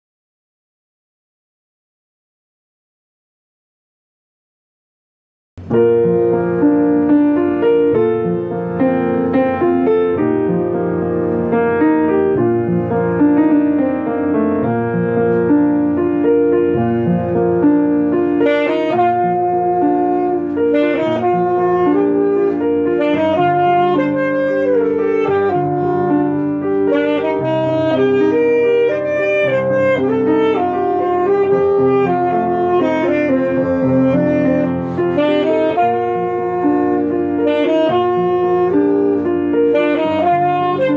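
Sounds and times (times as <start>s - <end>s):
alto saxophone melody: 5.6s - 40.9s
piano accompaniment: 5.6s - 40.9s.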